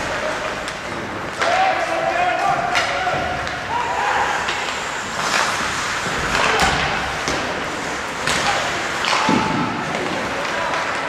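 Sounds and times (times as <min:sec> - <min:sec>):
hockey sticks hitting puck: 0:00.0 - 0:11.0
skates scraping on ice: 0:00.0 - 0:11.0.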